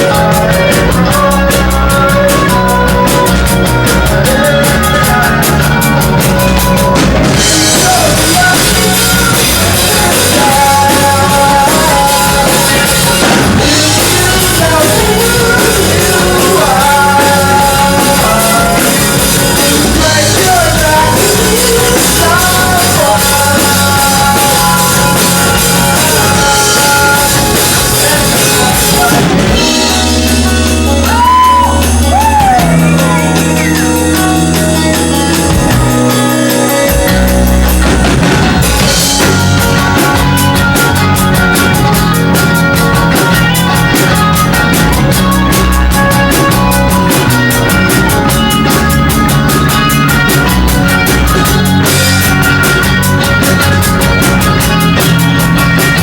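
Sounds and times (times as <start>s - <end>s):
drums and bass: 0.0s - 56.0s
person singing: 0.0s - 56.0s
rock band playing live: 0.0s - 56.0s.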